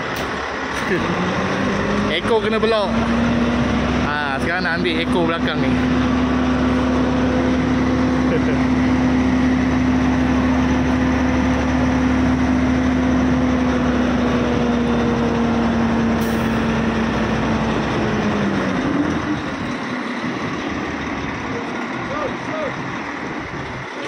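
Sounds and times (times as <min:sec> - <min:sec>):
truck diesel engine rumbling: 0:00.0 - 0:24.0.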